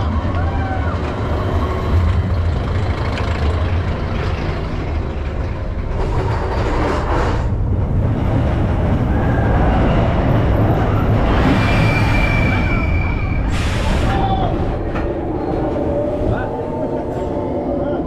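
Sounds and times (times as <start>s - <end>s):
roller coaster wheels rumbling: 0.0s - 18.0s.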